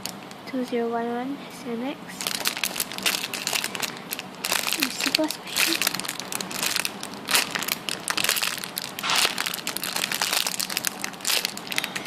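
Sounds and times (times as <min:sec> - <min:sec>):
toy packaging crinkling: 0:02.2 - 0:12.0.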